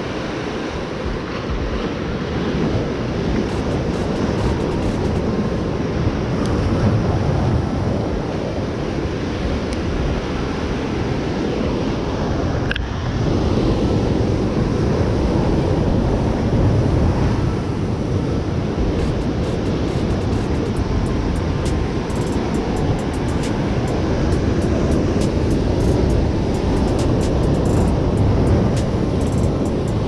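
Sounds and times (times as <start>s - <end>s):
ocean surf crashing on rocks: 0.0s - 30.0s
wind buffeting microphone: 0.0s - 30.0s.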